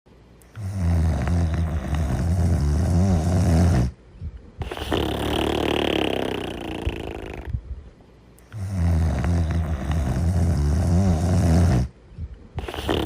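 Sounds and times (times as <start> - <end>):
low buzzing snore: 0.4 - 4.0, 4.6 - 7.7, 8.4 - 12.0, 12.6 - 13.0.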